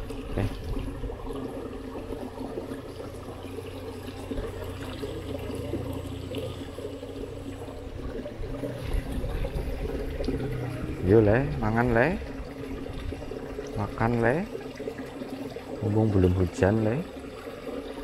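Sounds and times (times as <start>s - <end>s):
water flowing and trickling in ditch: 0.0s - 18.0s.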